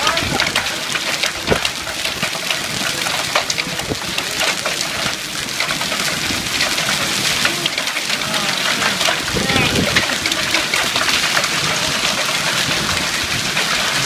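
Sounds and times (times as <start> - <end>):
hailstones striking hard surfaces: 0.0 - 14.0
heavy rain hissing: 0.0 - 14.0.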